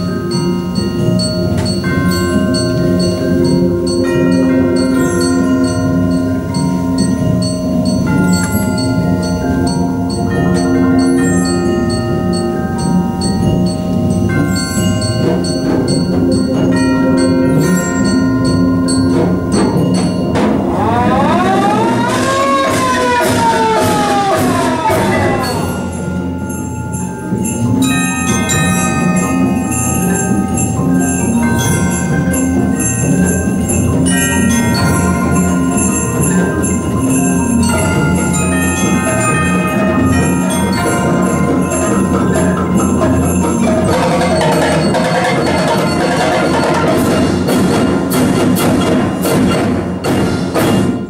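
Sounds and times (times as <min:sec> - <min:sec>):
mallet keyboards playing: 0:00.0 - 0:51.0
tubular bells ringing: 0:00.0 - 0:51.0.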